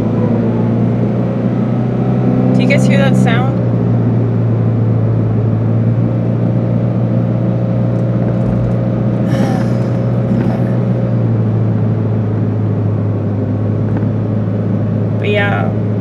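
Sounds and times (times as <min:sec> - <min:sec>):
car engine and road noise hum: 0:00.0 - 0:16.0.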